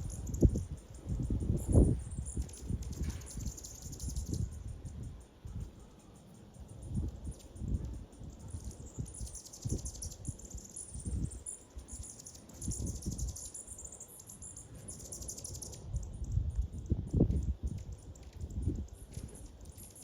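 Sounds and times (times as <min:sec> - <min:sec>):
high thin bird chirps: 0:00.0 - 0:20.0.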